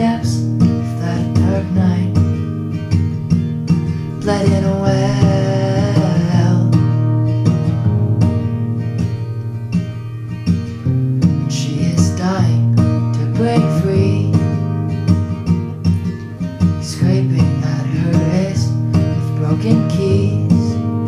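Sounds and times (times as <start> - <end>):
acoustic guitar picking chords: 0.0 - 21.0.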